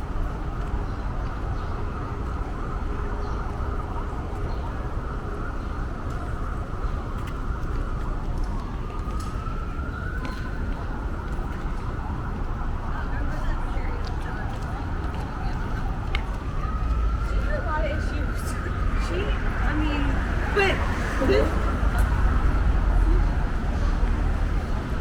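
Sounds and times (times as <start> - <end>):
city street traffic rumble: 0.0 - 25.0
emergency siren wailing: 0.2 - 25.0.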